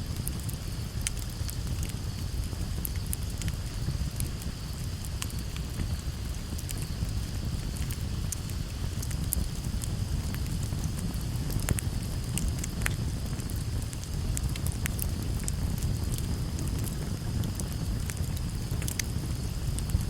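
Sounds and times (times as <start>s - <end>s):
campfire crackling: 0.0s - 20.0s
low steady rumble: 0.0s - 20.0s
sharp fire pops: 0.1s - 20.0s.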